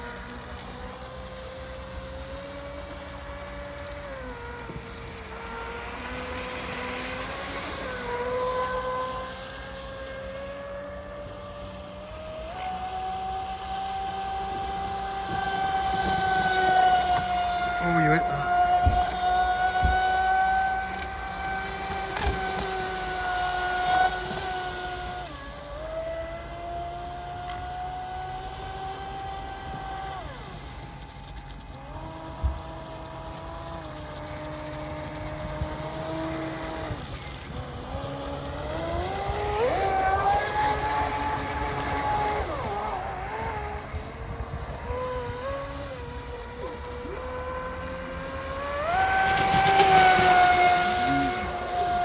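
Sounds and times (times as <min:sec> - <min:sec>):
speedboat motor high whine: 0:00.0 - 0:52.0.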